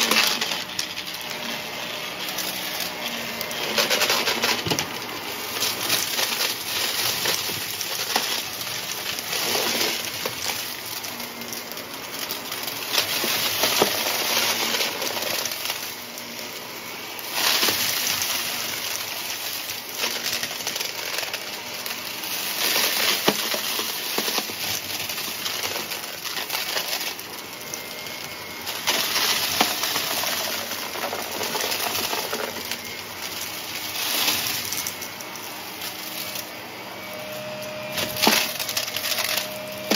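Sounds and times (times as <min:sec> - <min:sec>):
debris crunching and rattling: 0:00.0 - 0:01.6, 0:02.2 - 0:15.9, 0:17.2 - 0:39.9
upright vacuum cleaner running: 0:00.0 - 0:39.9.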